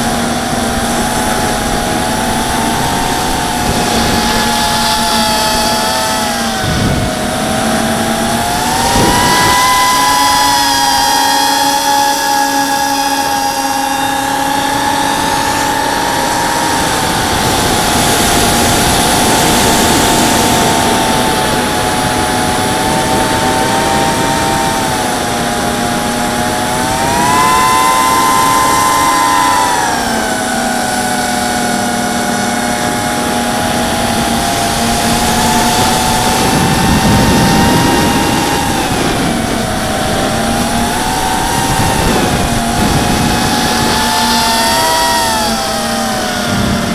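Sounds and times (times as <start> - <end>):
drone motors whining: 0.0 - 46.9
rush of air noise: 0.0 - 46.9.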